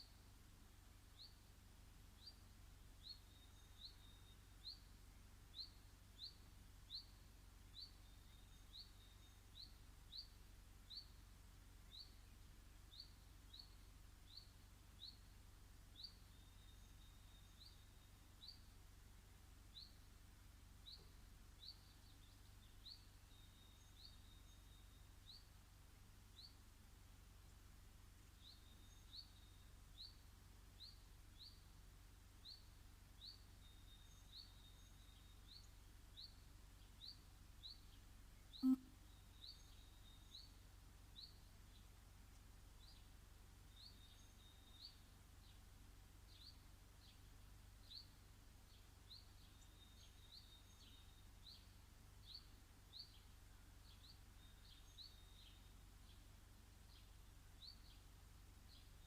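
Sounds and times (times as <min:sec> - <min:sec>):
faint high bird chirps: 0:02.1 - 0:18.8, 0:20.8 - 0:25.6, 0:28.2 - 0:31.7, 0:32.4 - 0:45.6, 0:46.2 - 0:59.0.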